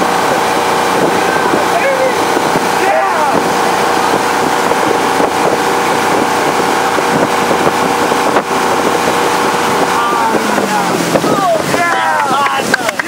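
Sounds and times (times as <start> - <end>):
boat engine running: 0.0 - 13.0
water rushing: 0.0 - 13.0
wind buffeting microphone: 0.0 - 13.0.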